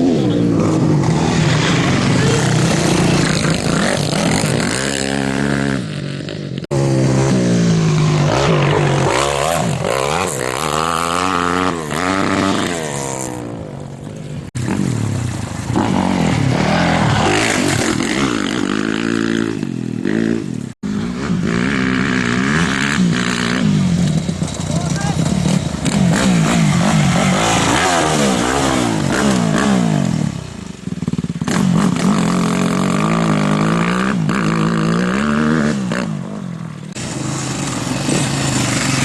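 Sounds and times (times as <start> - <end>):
motorcycles revving and passing by: 0.0 - 39.0.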